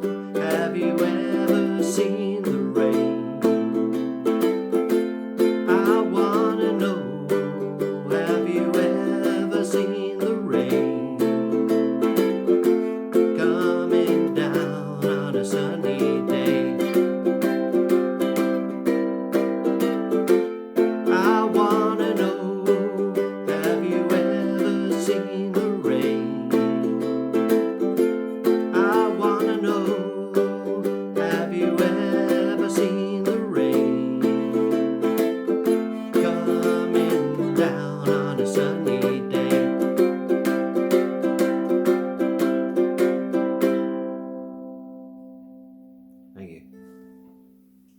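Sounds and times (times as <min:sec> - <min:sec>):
ukulele strummed chords: 0:00.0 - 0:47.9.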